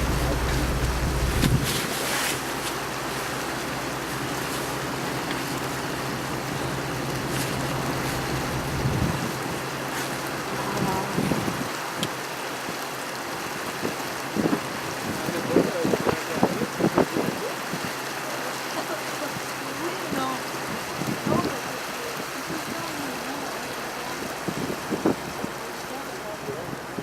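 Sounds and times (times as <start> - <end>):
boat motor humming: 0.0 - 27.0
wind and water rushing: 0.0 - 27.0.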